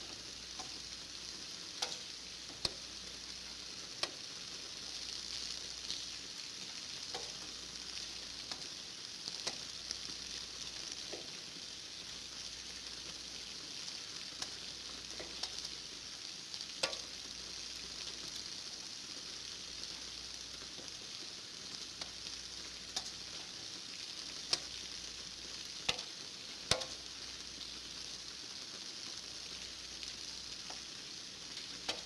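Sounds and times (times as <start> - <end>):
raindrops ticking: 0.0 - 16.0, 16.6 - 18.6, 19.2 - 28.1, 29.1 - 32.0
rain falling: 0.0 - 32.0.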